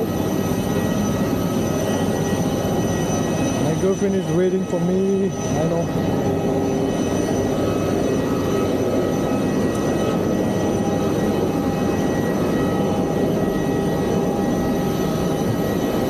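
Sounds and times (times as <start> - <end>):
high whining tones: 0.0 - 16.0
jet airliner rushing hum: 0.0 - 16.0.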